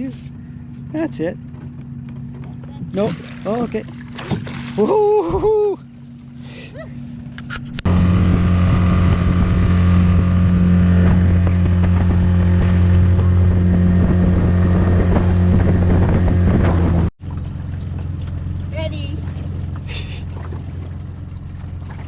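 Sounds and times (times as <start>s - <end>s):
motorboat engine drone: 0.0s - 22.0s.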